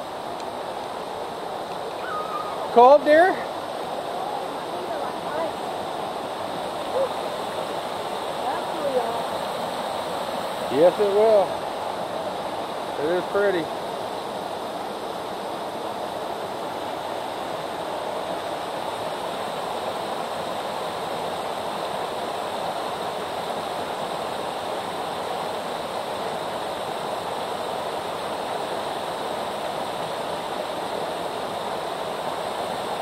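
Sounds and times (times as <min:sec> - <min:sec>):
water running over waterfall: 0:00.0 - 0:33.0.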